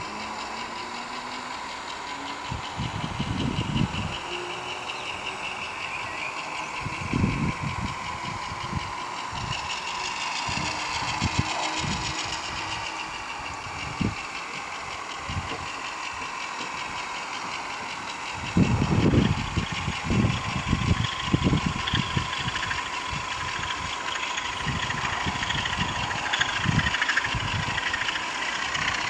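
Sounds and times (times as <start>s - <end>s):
model locomotive engine sound: 0.0s - 29.0s.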